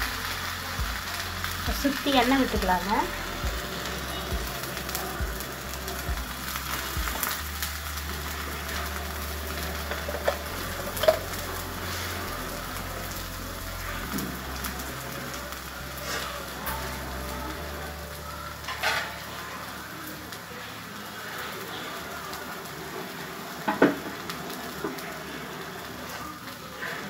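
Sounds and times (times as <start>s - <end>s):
oil sizzling and crackling: 0.0s - 27.0s.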